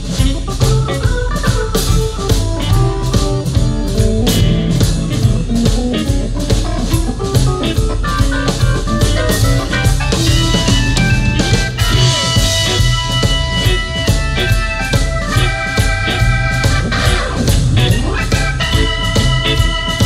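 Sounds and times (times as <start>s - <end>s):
drum beat: 0.0s - 20.0s
electric bass: 0.0s - 20.0s
lead guitar: 0.0s - 20.0s.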